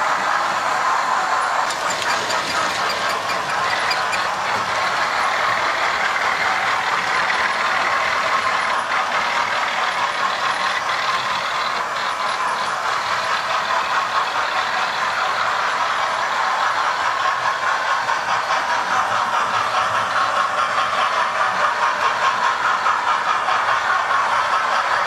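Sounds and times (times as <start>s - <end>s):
model train motors whirring: 0.0s - 25.0s.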